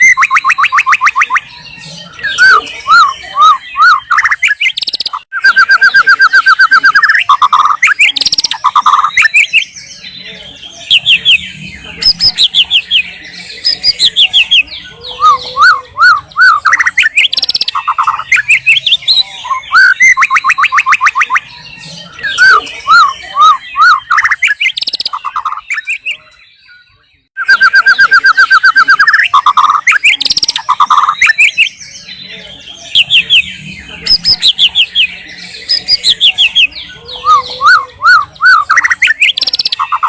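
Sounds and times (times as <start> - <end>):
bird singing whistles and trills: 0.0 - 40.0.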